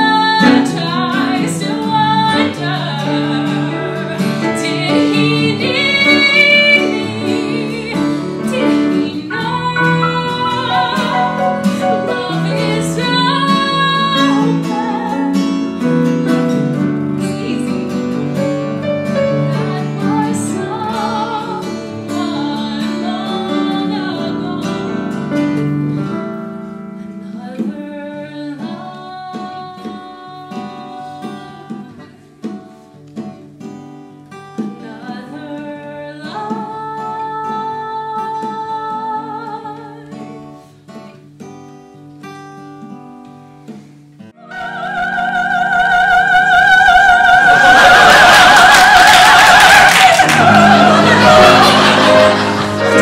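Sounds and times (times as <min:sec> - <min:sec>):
woman singing classical style: 0:00.0 - 0:15.9, 0:17.1 - 0:25.3, 0:27.2 - 0:32.3, 0:34.7 - 0:40.6, 0:44.4 - 0:53.0
instrumental accompaniment: 0:00.0 - 0:37.2, 0:47.4 - 0:53.0.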